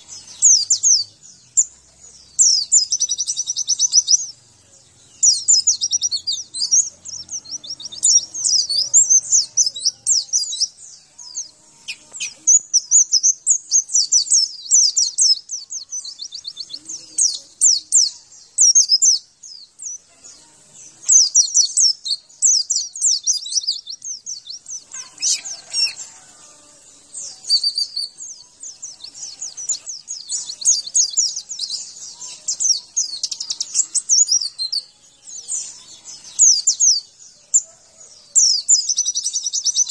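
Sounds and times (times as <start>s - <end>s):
bird high-pitched twittering: 0.0s - 39.9s.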